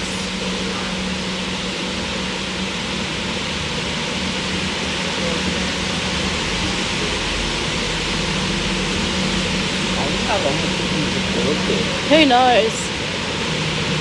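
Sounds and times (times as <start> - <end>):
constant low hum: 0.0 - 14.0
steady rushing noise: 0.0 - 14.0.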